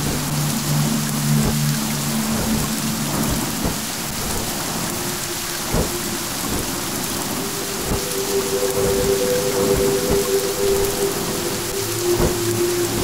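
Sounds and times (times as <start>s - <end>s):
soft background music: 0.0s - 13.0s
steady rain: 0.0s - 13.0s
thunder rumbles: 1.4s - 13.0s.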